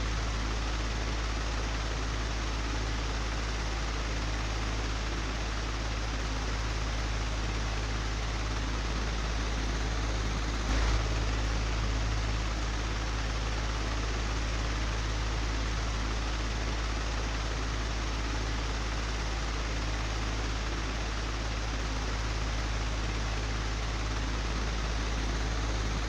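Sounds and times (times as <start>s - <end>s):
electric fan running: 0.0s - 26.0s.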